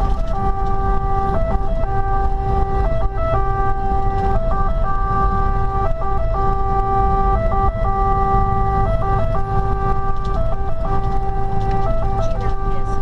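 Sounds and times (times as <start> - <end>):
diesel truck engine: 0.0 - 13.0
road rumble: 0.0 - 13.0
two-tone fire engine siren: 0.0 - 13.0.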